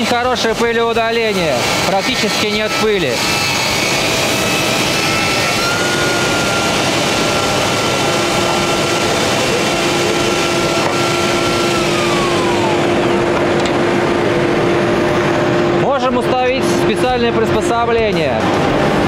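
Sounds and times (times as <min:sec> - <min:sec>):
table saw motor whine: 0:00.0 - 0:17.7.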